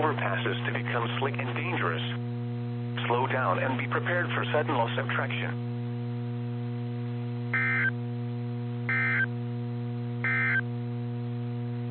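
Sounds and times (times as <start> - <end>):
steady hum: 0.0 - 11.9.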